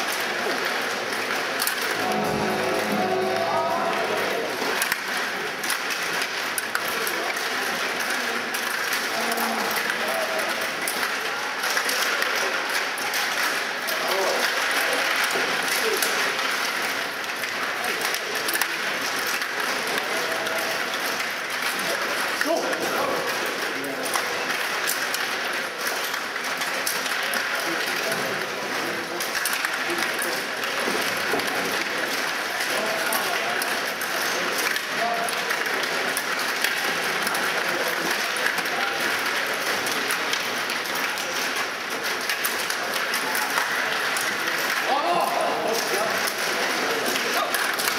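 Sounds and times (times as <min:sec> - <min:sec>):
murmur of voices: 0:00.0 - 0:47.9
table hockey clattering: 0:00.0 - 0:47.9.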